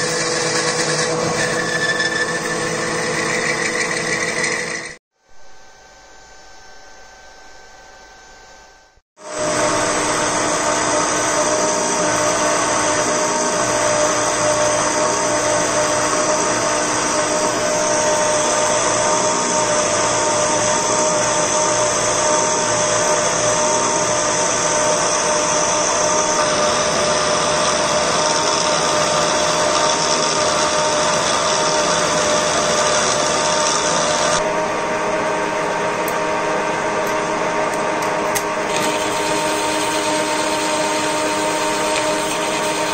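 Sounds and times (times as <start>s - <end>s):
power tool motor whining: 0.0s - 5.0s, 9.3s - 34.5s, 37.7s - 42.9s.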